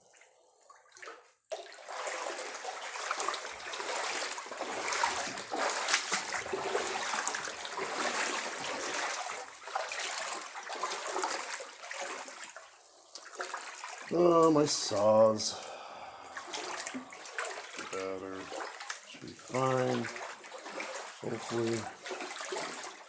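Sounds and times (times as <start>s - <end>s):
water sloshing from wading: 0.0s - 23.0s.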